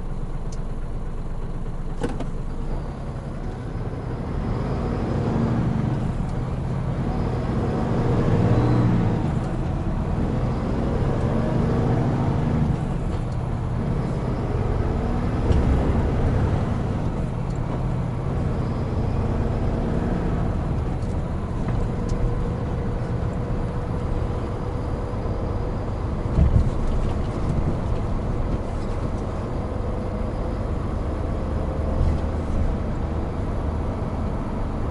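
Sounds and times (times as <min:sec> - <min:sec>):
road and tyre noise: 0:00.0 - 0:34.9
truck diesel engine running: 0:00.0 - 0:34.9.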